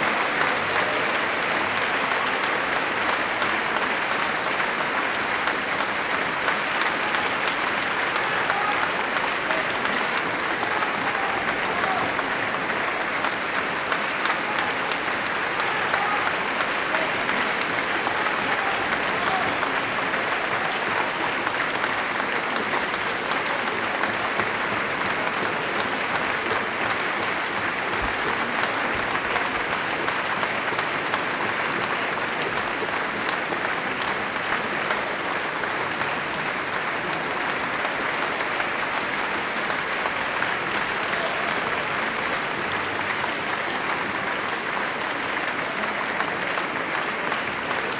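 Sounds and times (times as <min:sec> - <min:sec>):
audience applauding: 0:00.0 - 0:47.9.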